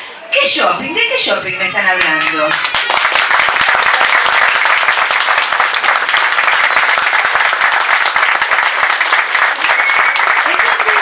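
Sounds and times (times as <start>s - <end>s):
crowd applauding: 2.0s - 11.0s.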